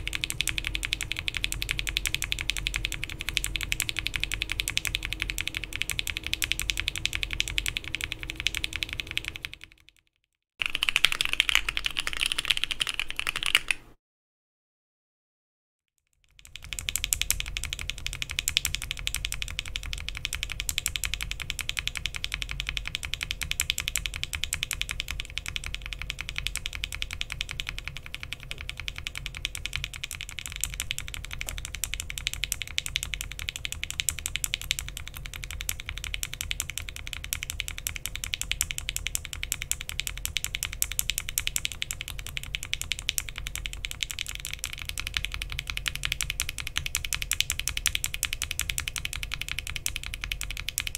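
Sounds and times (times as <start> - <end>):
fast mechanical keyboard typing: 0.0 - 14.0, 16.1 - 50.9.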